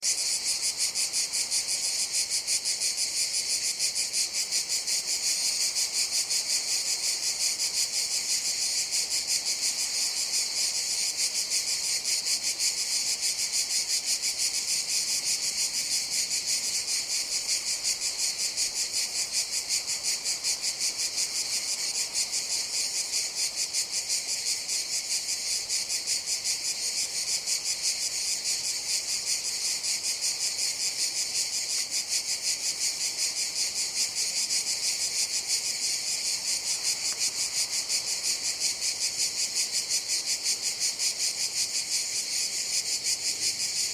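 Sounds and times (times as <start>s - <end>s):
cicadas buzzing: 0.0s - 43.9s.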